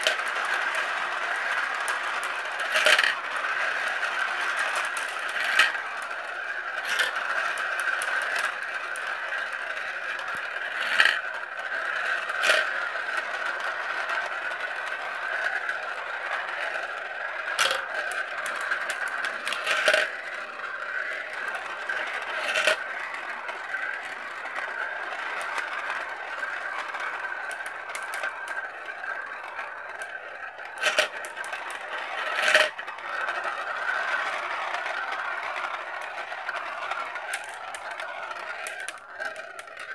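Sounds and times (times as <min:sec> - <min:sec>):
marbles clacking: 0:00.0 - 0:39.9
marbles rolling whir: 0:00.0 - 0:39.9.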